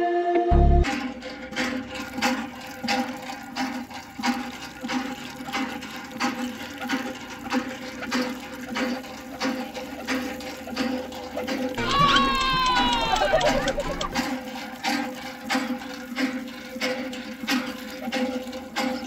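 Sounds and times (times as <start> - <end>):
water gushing from hand pump: 0.8 - 19.0.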